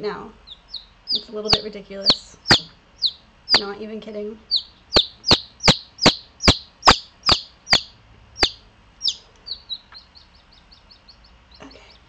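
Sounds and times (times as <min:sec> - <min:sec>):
chick peeping loudly: 0:00.4 - 0:03.8, 0:04.5 - 0:12.0.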